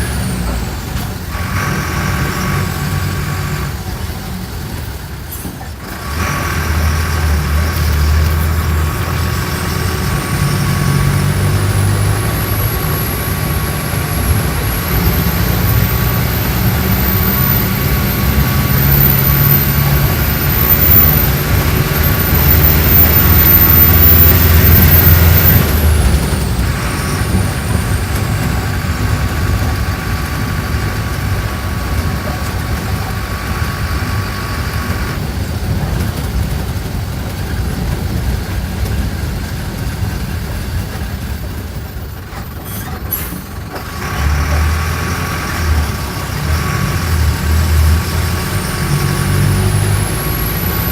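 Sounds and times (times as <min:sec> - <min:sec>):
bus diesel engine under load: 0:00.0 - 0:50.9
high gearbox whine: 0:00.0 - 0:50.9.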